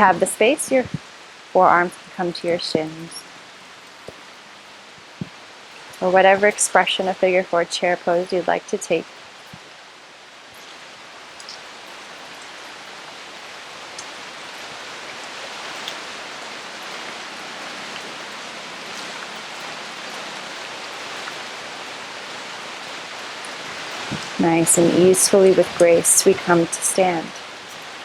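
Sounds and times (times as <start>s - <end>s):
steady rainfall: 0.0s - 28.0s.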